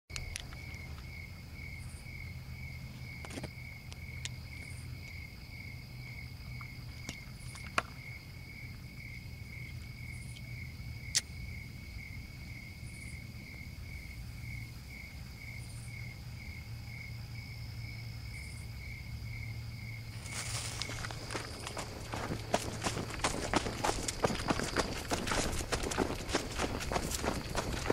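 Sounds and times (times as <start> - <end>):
crickets chirping: 0.1 - 27.9
high insect trill: 0.1 - 27.9.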